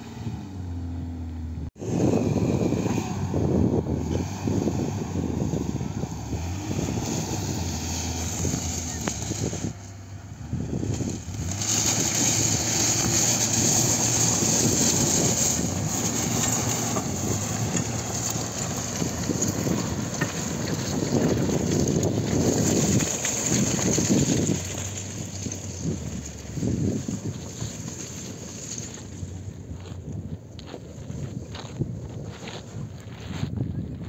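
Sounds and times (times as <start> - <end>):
car engine running: 0.0 - 34.0
tyre and road noise: 0.0 - 34.0
wind buffeting the microphone: 1.8 - 27.9, 29.3 - 34.0.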